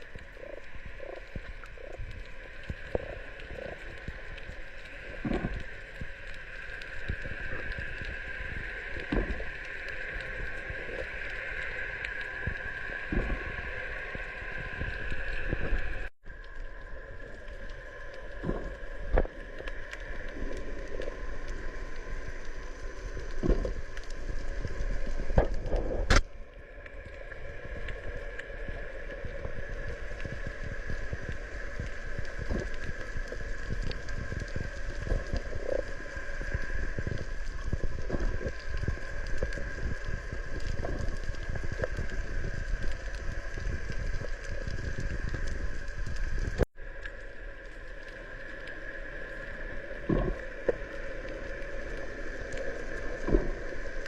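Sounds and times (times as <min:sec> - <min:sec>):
water splashing against hull: 0:00.0 - 0:54.0.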